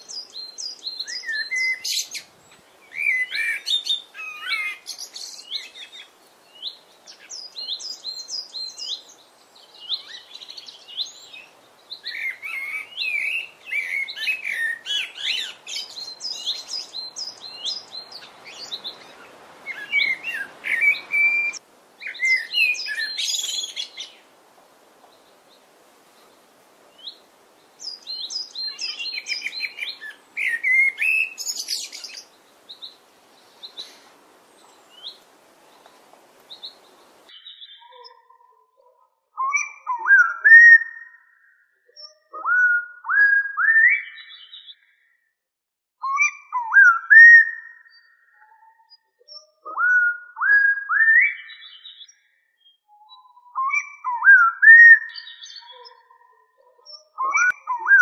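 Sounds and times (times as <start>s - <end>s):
birds chirping: 0.0s - 24.4s, 25.0s - 45.0s, 46.0s - 58.0s.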